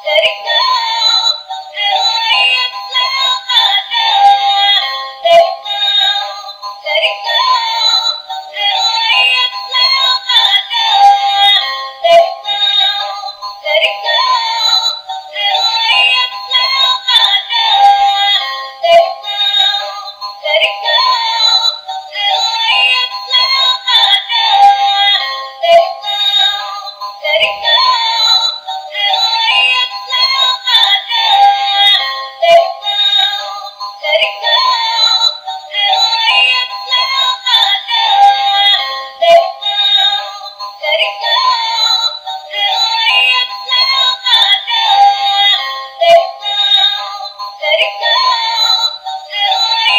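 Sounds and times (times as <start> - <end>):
tinny toy electronic song: 0.0 - 49.9.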